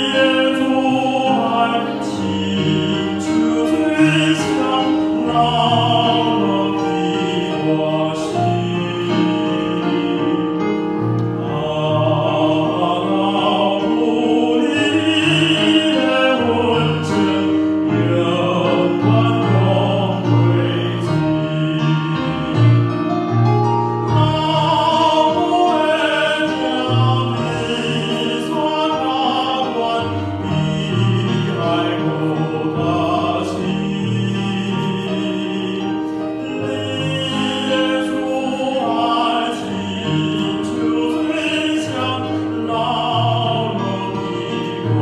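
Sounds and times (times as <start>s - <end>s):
man singing a hymn: 0.0s - 45.0s
piano accompaniment: 0.0s - 45.0s.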